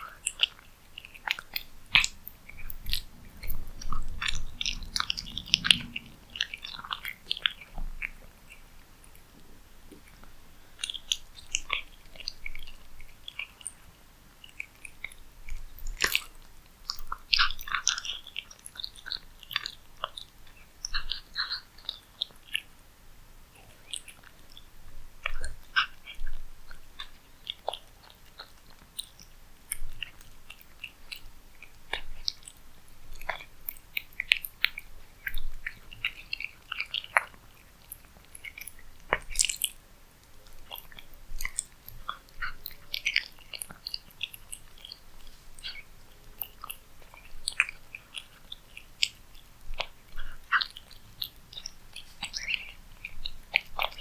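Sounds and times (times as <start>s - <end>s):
cat chewing food: 0.0s - 22.9s, 23.5s - 54.0s.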